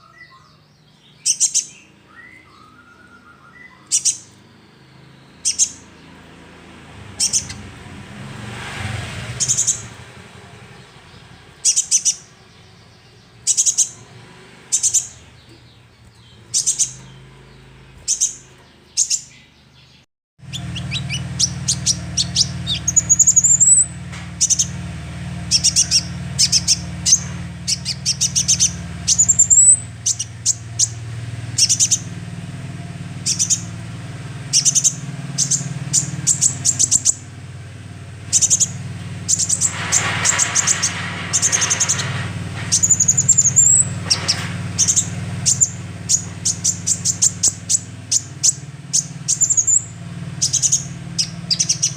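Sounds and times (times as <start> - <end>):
bird chirping and whistling: 0.0 - 6.3, 7.1 - 7.8, 9.2 - 10.1, 10.8 - 24.8, 25.4 - 32.2, 33.2 - 33.8, 34.4 - 37.4, 38.3 - 51.9.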